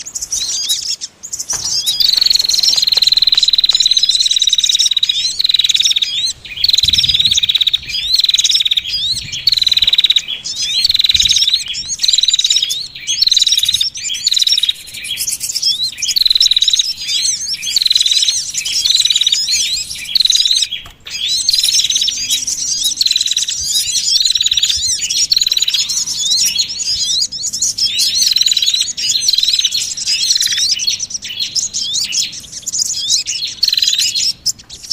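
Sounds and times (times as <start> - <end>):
songbirds chirping chorus: 0.0 - 34.9.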